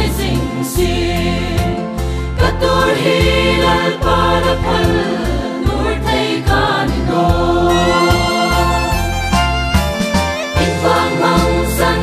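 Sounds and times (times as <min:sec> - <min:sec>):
mixed choir singing: 0:00.0 - 0:09.2, 0:10.6 - 0:12.0
instrumental backing with bass: 0:00.0 - 0:12.0.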